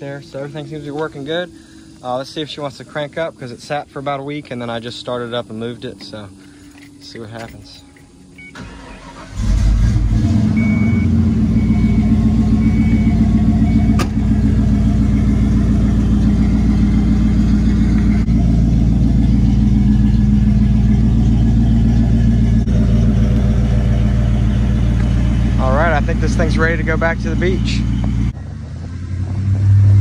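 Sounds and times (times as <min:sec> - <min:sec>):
car engine starting and idling: 0:00.0 - 0:30.0.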